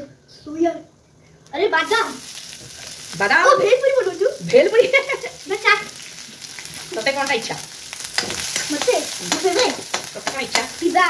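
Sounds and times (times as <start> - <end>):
food sizzling in hot oil: 1.7 - 11.0.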